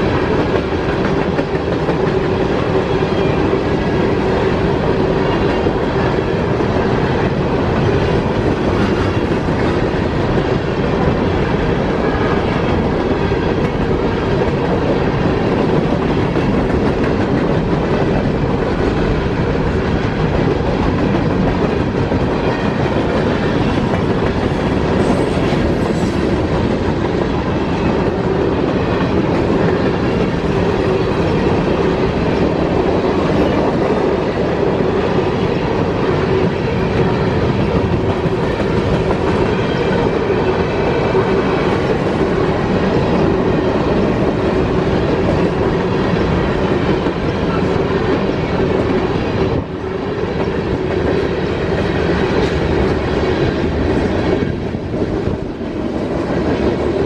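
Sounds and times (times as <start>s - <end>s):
steel wheels running on rails: 0.0s - 57.0s.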